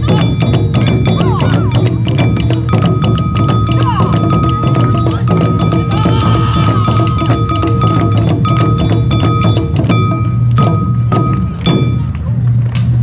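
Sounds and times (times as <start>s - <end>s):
clanging percussion: 0.0s - 13.0s
taiko drums: 0.0s - 13.0s.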